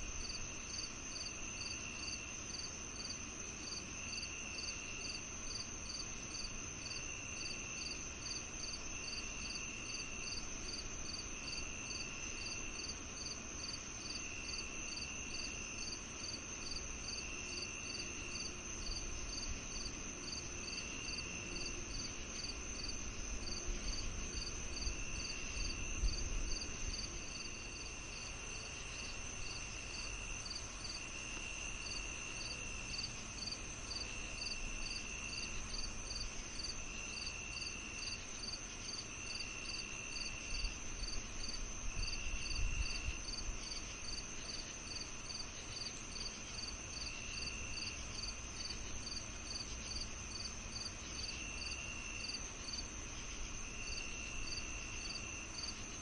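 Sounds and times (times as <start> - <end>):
continuous high insect trill: 0.0 - 56.0
insect chirping: 0.0 - 56.0
lower insect trill: 0.0 - 56.0.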